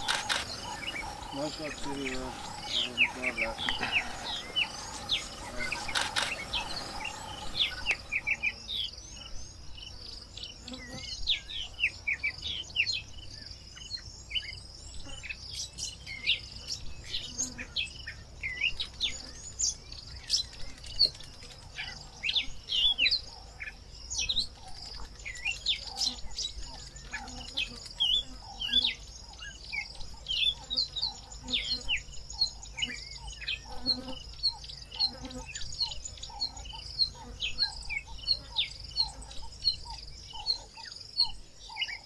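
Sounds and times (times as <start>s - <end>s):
birds chirping and whistling: 0.0s - 9.6s, 10.7s - 42.0s
insect drone: 0.0s - 42.0s.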